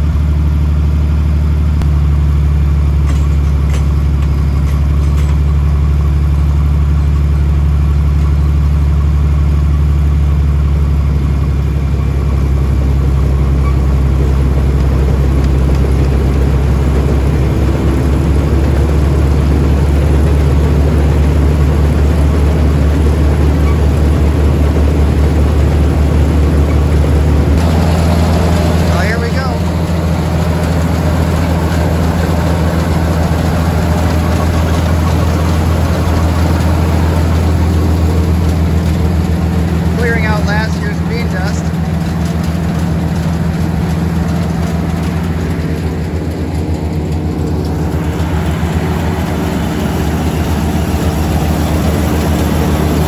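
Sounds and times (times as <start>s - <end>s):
combine engine running: 0.0s - 53.0s
threshing machinery belts and pulleys: 2.7s - 9.1s, 10.1s - 53.0s.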